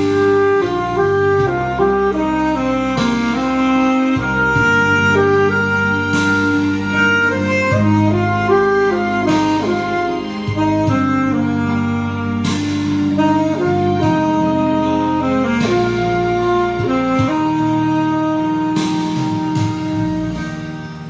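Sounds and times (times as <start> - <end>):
backing accompaniment: 0.0 - 21.0
saxophone melody: 0.0 - 21.0.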